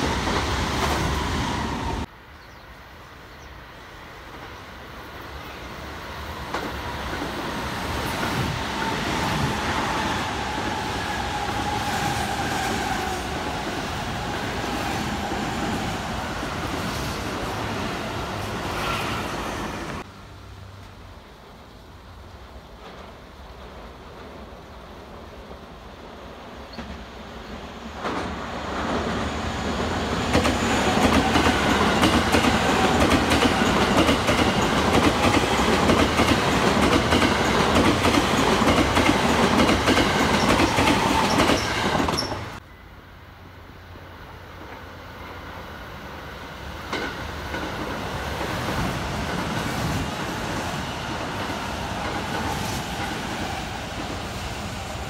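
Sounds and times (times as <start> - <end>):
train rumbling past: 0.0 - 3.0, 3.6 - 55.0.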